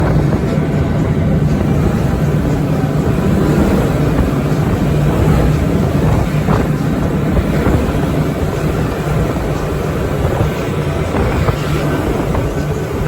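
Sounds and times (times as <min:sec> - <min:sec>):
outboard motors droning: 0:00.0 - 0:13.0
rushing noise: 0:00.0 - 0:13.0.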